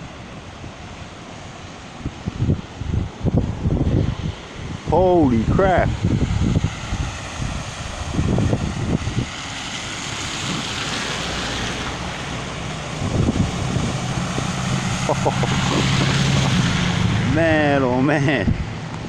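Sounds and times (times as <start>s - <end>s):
floodwater rushing: 0.0s - 19.0s
low engine hum: 0.0s - 19.0s
wind gusting on microphone: 0.0s - 19.0s.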